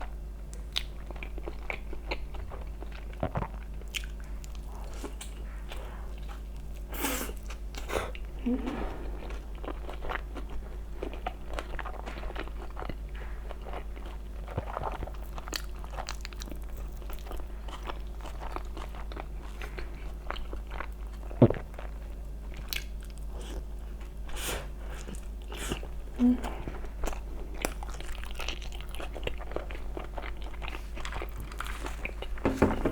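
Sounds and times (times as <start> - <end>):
chewing and crunching food: 0.0 - 32.9.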